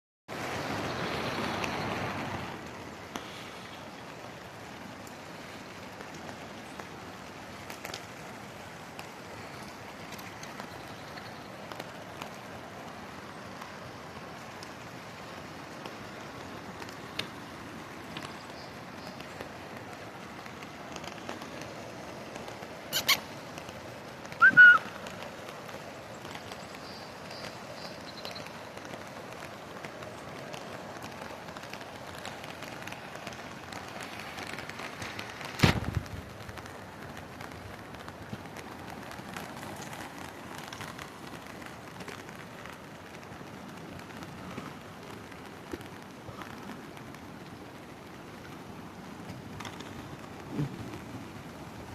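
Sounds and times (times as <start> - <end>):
floodwater rushing: 0.3 - 51.9.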